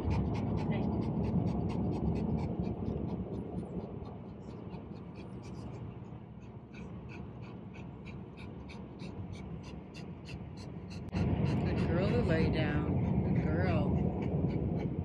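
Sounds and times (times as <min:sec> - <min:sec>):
dog panting fast: 0:00.0 - 0:15.0
low road rumble in car: 0:00.0 - 0:15.0.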